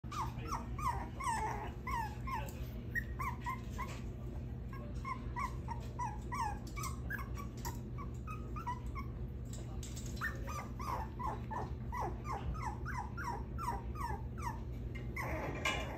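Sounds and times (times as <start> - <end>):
puppy whimpering: 0.1 - 9.4, 10.0 - 15.9.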